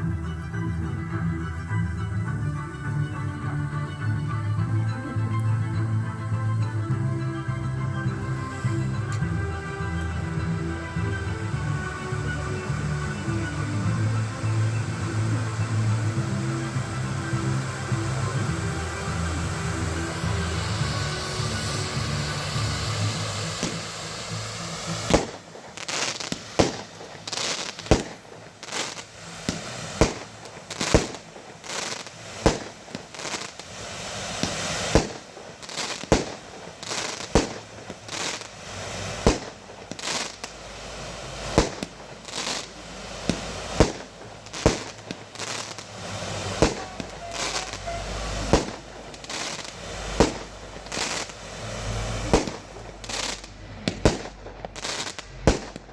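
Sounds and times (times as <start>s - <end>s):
fireworks banging: 0.0s - 55.9s
fireworks crackling: 0.0s - 55.9s.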